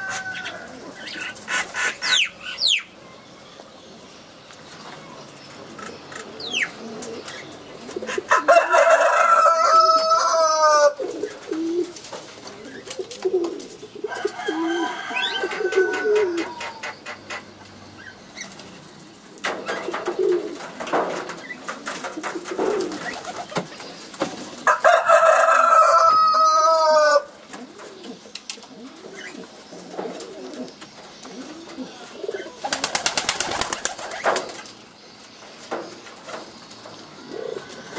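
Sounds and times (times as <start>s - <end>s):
pigeons cooing: 0.0s - 37.9s.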